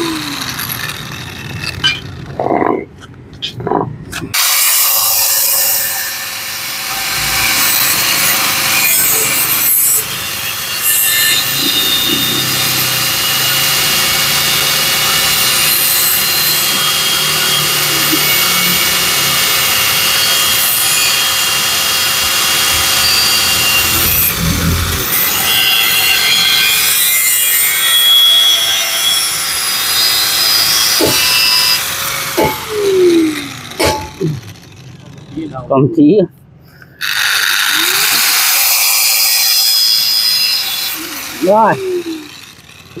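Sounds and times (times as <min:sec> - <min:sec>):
wall chaser grinding steel: 0:00.0 - 0:03.2, 0:04.2 - 0:35.8, 0:37.0 - 0:43.0.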